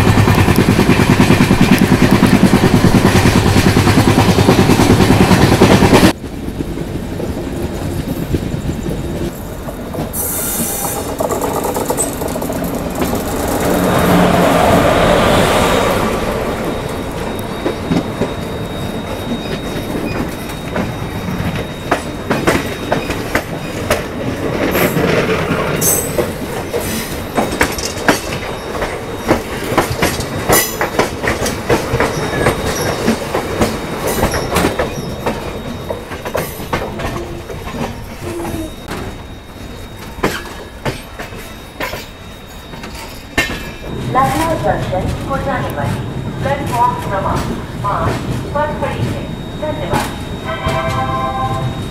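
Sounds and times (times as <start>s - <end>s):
wheels clacking over rail joints: 0.0s - 14.8s, 16.3s - 49.4s
train wheels rumbling on rails: 0.0s - 51.9s.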